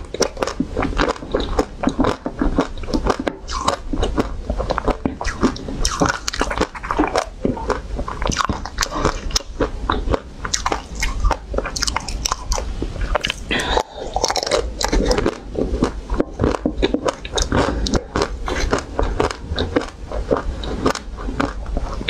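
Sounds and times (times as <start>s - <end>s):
crunchy chewing of ice cream bar: 0.0s - 22.0s.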